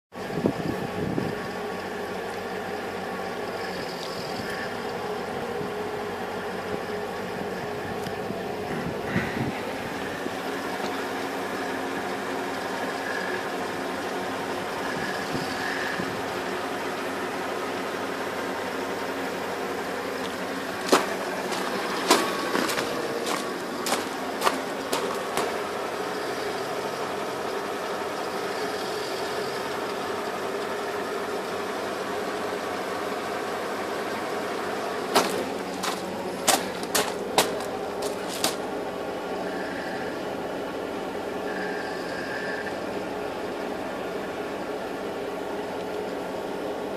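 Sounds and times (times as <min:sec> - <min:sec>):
car engine idling: 0:00.2 - 0:46.9.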